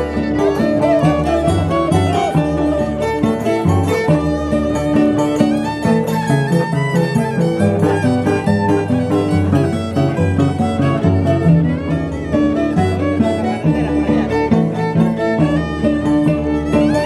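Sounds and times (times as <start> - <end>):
held melody notes: 0.0 - 17.0.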